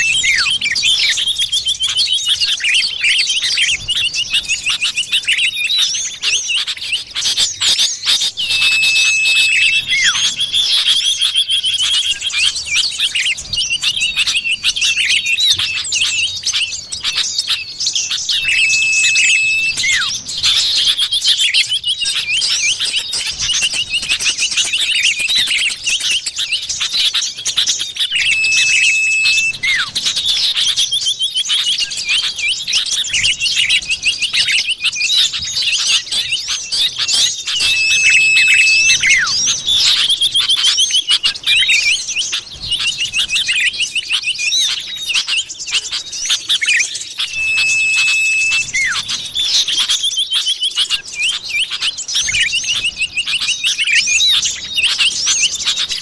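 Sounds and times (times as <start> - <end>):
bird chirps and trills: 0.0 - 56.0
long level bird whistle: 0.0 - 56.0.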